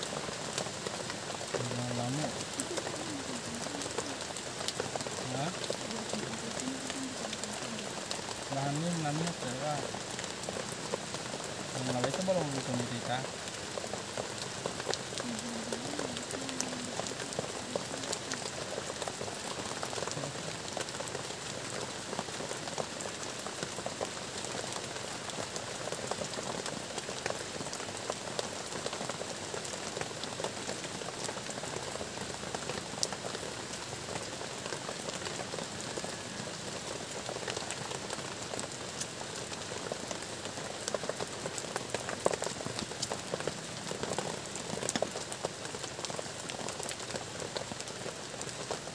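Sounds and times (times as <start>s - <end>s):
rain on a plastic tarp: 0.0s - 48.9s.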